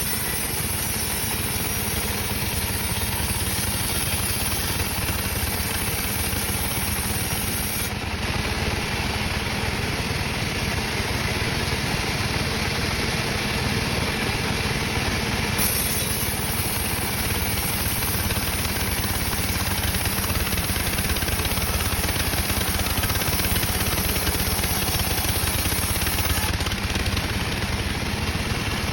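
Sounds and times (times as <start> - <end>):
sawmill machinery drone: 0.0 - 28.9.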